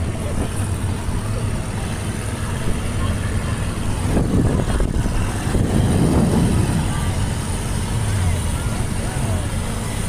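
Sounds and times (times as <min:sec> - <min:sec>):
boat engine running: 0:00.0 - 0:10.0
wind and water rushing: 0:00.0 - 0:10.0.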